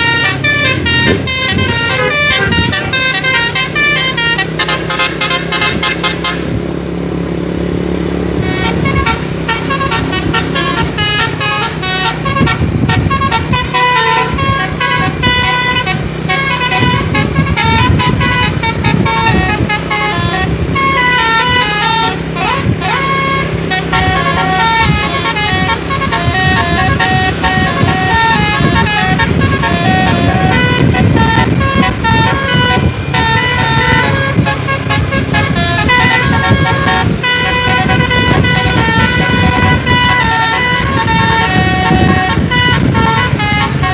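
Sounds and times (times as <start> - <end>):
multi-tone musical air horn: 0.0 - 6.6, 8.4 - 43.9.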